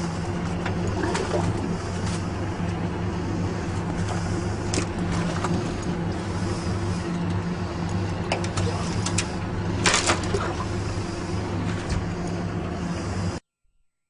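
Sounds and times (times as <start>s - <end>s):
boat engine humming: 0.0s - 13.4s.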